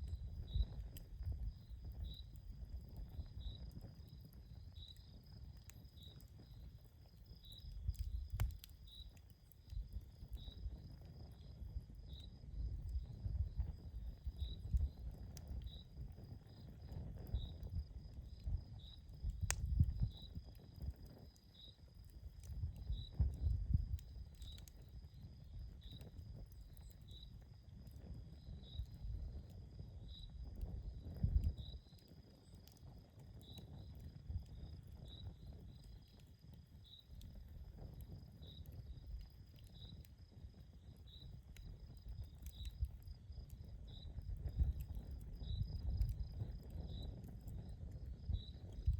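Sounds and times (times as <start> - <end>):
campfire crackling and popping: 0.0 - 48.9
cricket chirping: 0.1 - 29.4, 30.0 - 32.6, 33.3 - 48.9.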